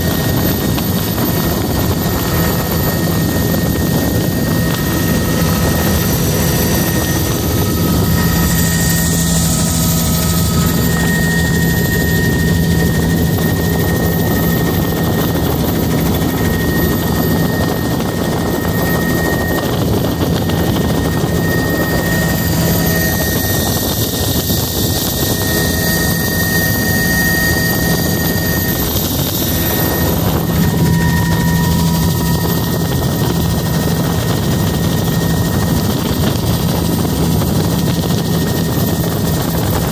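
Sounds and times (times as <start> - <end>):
helicopter engine and rotor drone: 0.0 - 39.9
high whine: 0.0 - 39.9.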